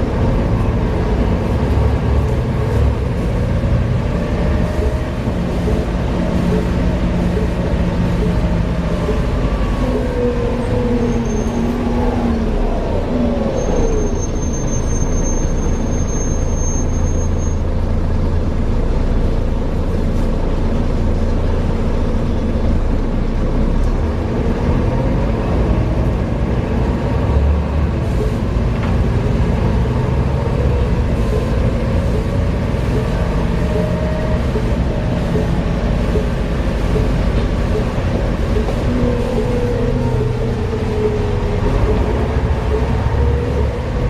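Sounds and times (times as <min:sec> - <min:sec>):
bus engine droning: 0:00.0 - 0:44.0.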